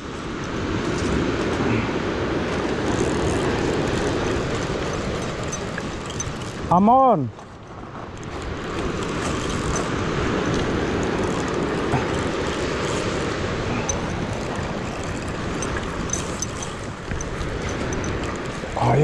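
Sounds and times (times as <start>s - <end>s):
fishing reel cranking: 2.4s - 6.9s, 7.5s - 19.0s.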